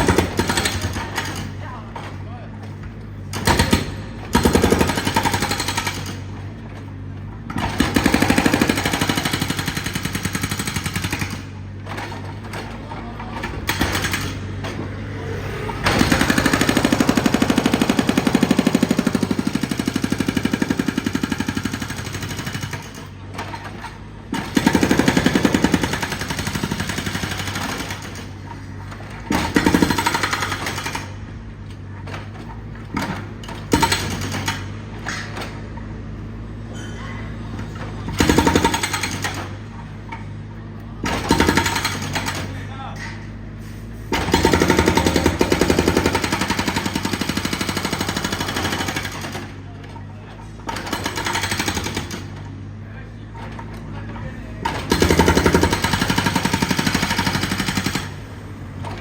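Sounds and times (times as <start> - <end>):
jackhammer hammering: 0.0 - 35.6, 36.8 - 40.0, 41.0 - 42.6, 44.1 - 49.6, 50.6 - 52.5, 54.6 - 59.0.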